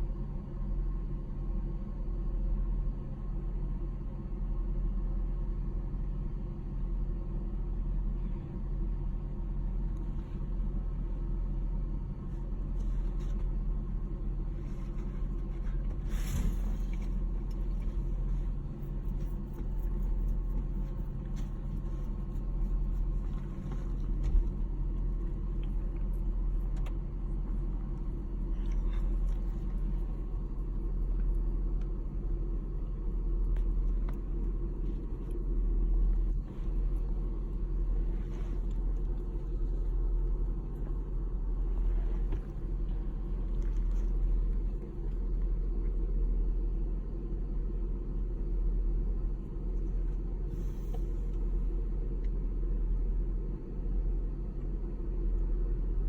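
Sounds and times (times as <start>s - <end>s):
car cabin engine and road noise: 6.3s - 56.0s.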